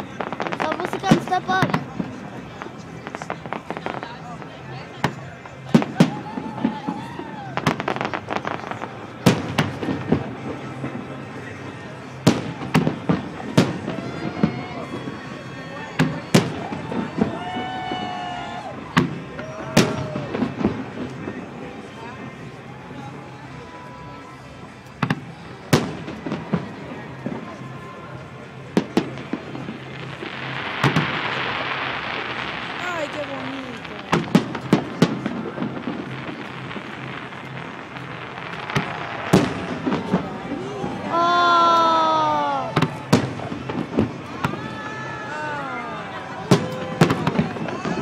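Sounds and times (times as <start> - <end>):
background noise: 0.0 - 48.0
fireworks bangs: 0.0 - 48.0
fireworks crackle: 0.0 - 48.0.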